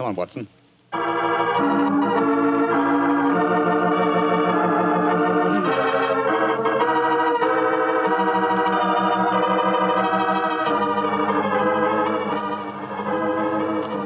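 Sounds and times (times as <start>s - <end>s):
organ chords: 0.9s - 14.0s.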